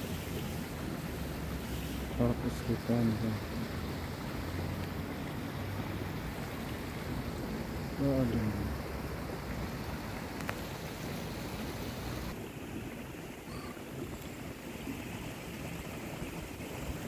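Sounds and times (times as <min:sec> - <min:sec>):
rain falling on a pond: 0:00.0 - 0:17.0.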